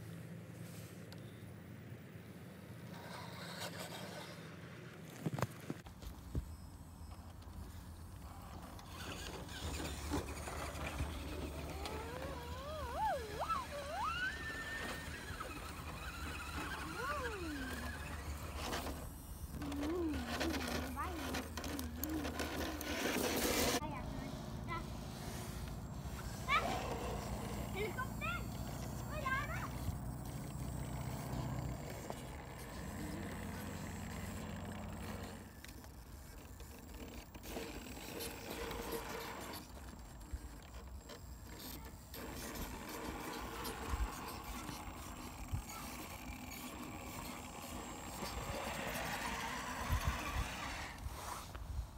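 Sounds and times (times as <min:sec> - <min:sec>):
electric motor and gears whining: 0:02.8 - 0:51.9
tyres scraping over rock: 0:08.2 - 0:51.6.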